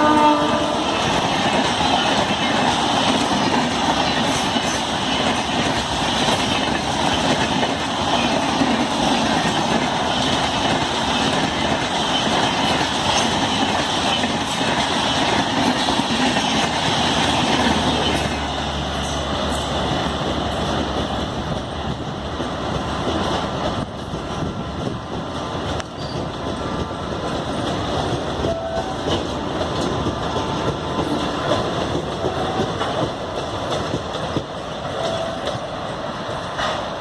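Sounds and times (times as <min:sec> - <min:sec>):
train wheels clattering on rails: 0:00.0 - 0:37.0.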